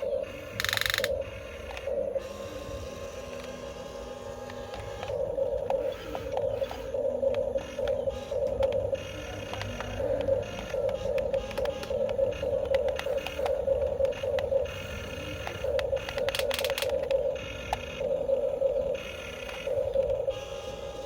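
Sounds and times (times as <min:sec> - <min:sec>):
electric toy motors whining: 0:00.0 - 0:21.0.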